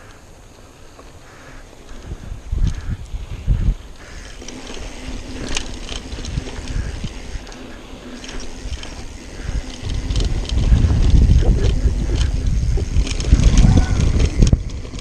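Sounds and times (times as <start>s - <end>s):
bike tyre roar: 0.0s - 15.0s
bike frame rattling: 1.5s - 15.0s.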